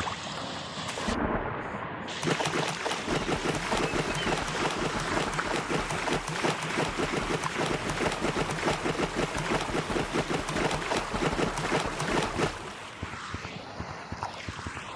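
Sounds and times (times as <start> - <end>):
water rushing and splashing: 0.0 - 13.4.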